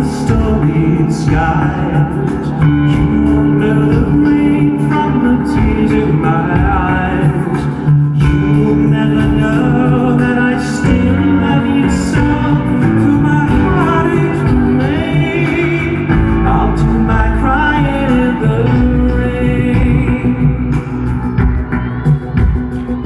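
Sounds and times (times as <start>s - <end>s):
live band playing pop ballad: 0.0s - 23.0s
man singing: 0.0s - 23.0s.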